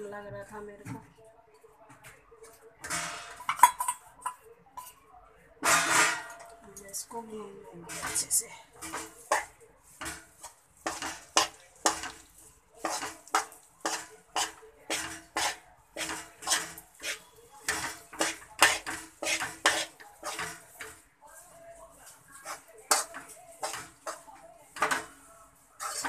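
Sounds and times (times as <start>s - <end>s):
metal spoon scraping metal pan: 2.8s - 5.0s, 5.6s - 6.6s, 7.8s - 26.0s.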